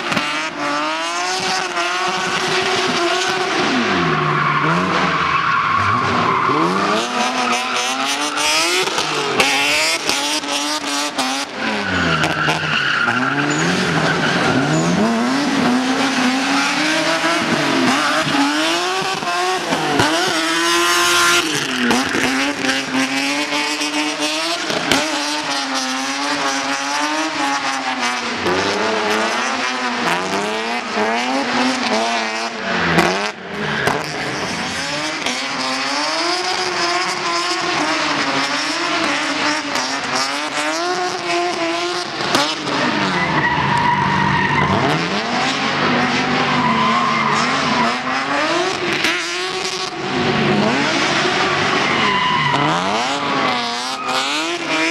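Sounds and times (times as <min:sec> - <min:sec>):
car engine revving: 0:00.0 - 0:54.9
tyres squealing and skidding: 0:01.3 - 0:54.9.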